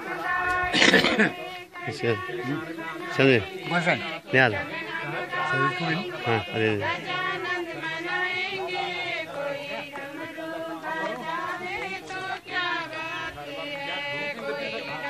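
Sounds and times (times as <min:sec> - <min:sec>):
voices chanting a mantra: 0:00.0 - 0:15.0.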